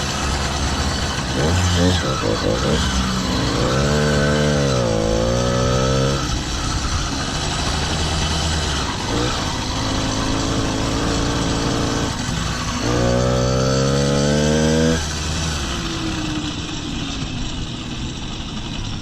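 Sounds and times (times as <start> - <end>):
motorized bicycle engine revving: 0.0 - 18.5
road noise: 0.0 - 19.0
wind: 0.0 - 19.0.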